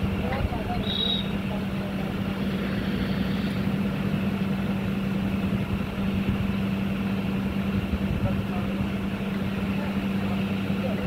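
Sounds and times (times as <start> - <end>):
drilling rig machine hum: 0.0 - 11.0.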